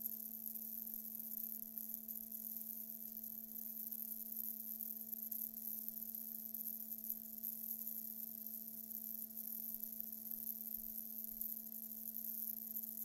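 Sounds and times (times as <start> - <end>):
faint flickering high hiss: 0.0 - 13.0.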